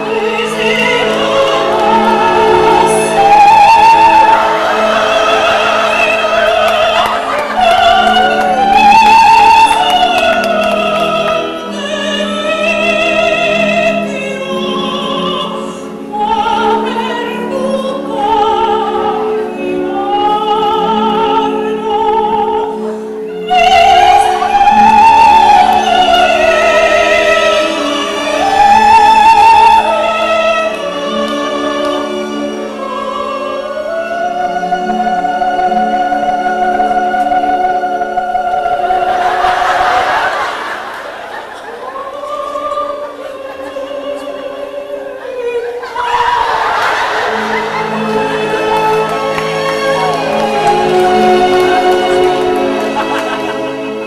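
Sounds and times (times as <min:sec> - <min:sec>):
instrumental accompaniment: 0:00.0 - 0:54.0
operatic voice singing: 0:00.0 - 0:54.0.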